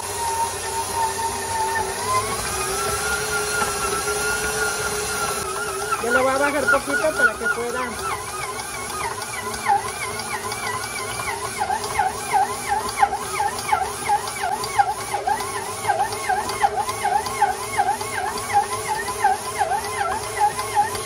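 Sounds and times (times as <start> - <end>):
stand mixer motor whining: 0.0 - 21.0.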